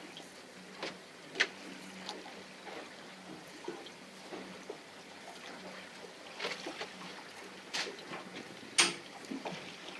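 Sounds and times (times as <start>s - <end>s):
faint steady hum: 0.0s - 9.9s
water lapping against boat hull: 0.0s - 9.9s.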